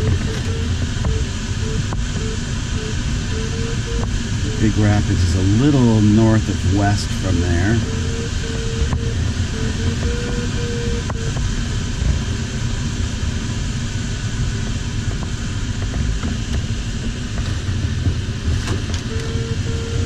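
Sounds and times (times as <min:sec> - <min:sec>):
air rushing around cockpit: 0:00.0 - 0:20.0.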